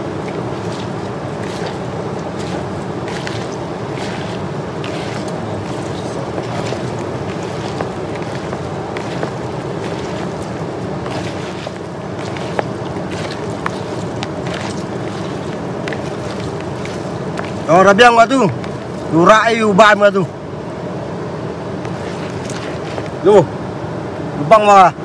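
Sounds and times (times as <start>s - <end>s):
hand mixing salad in plastic bowl: 0.0s - 19.4s, 21.8s - 23.4s
river flowing: 0.0s - 24.1s.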